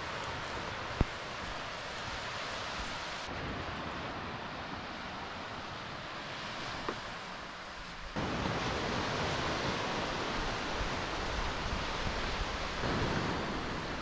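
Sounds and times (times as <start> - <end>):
ocean surf washing onto beach: 0.0 - 14.0.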